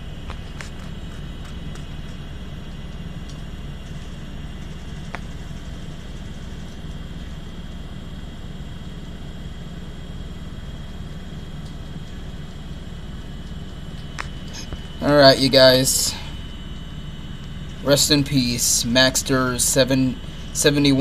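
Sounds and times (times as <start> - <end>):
computer hum with high whine: 0.0 - 21.0.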